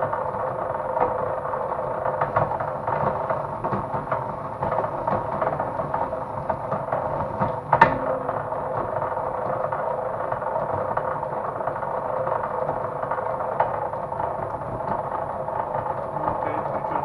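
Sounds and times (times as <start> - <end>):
small machine running: 0.0 - 17.0.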